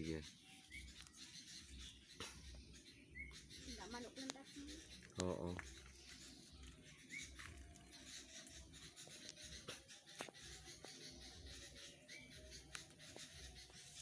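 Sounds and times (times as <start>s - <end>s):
faint rising bird chirp: 0.0s - 14.0s.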